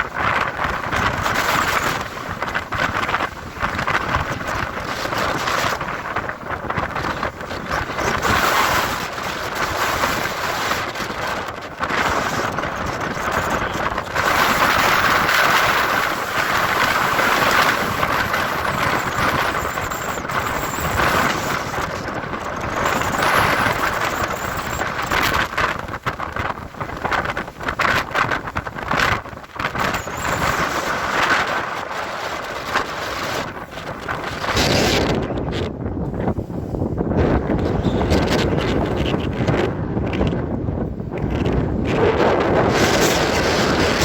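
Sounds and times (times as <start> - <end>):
storm wind gusting on microphone: 0.0 - 44.0.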